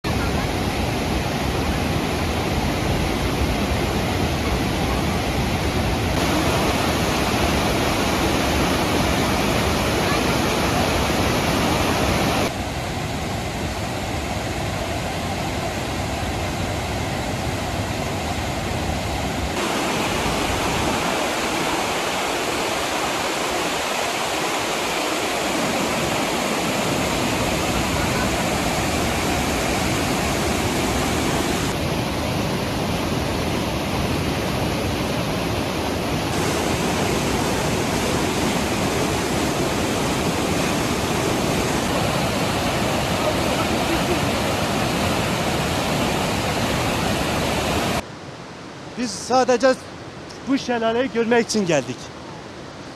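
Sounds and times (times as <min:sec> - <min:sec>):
waterfall rushing water: 0:00.0 - 0:52.9.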